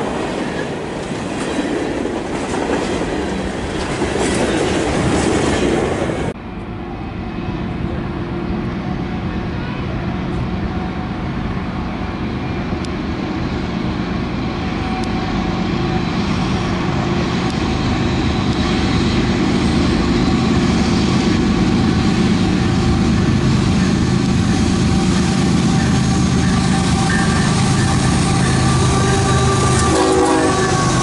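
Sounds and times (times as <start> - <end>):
diesel locomotive engine rumble: 0.0 - 31.0
train wheel and rail noise: 0.0 - 31.0.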